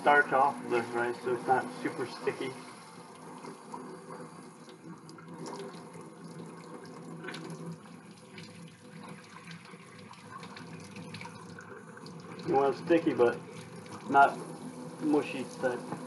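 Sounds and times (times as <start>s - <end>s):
faucet water splashing in sink: 0.0s - 16.0s.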